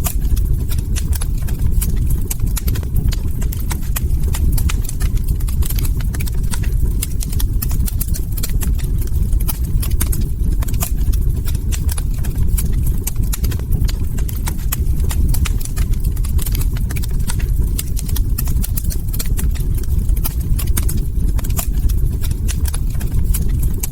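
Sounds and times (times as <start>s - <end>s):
log fire snapping and popping: 0.0s - 23.9s
low rumble of burning: 0.0s - 23.9s.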